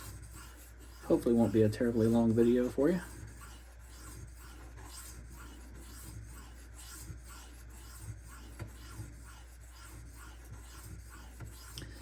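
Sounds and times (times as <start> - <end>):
knife scraping on whetstone: 0.0 - 12.0.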